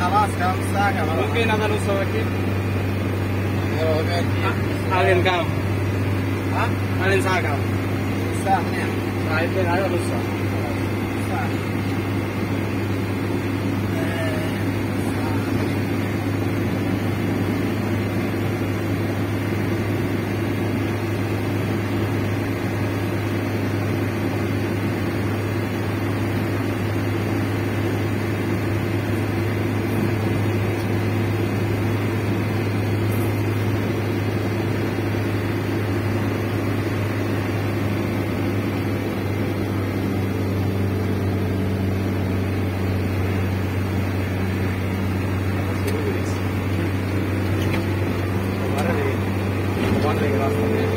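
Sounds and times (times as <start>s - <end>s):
car engine and tyres droning: 0.0s - 50.9s.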